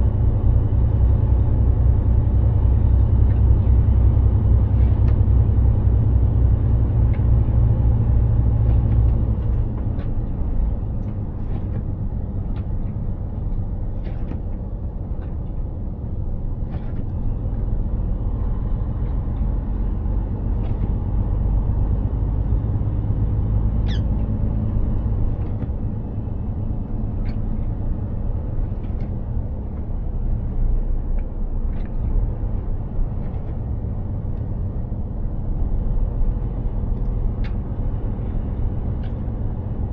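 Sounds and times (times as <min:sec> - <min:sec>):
road and tyre noise: 0:00.0 - 0:39.9
truck engine droning: 0:00.0 - 0:39.9.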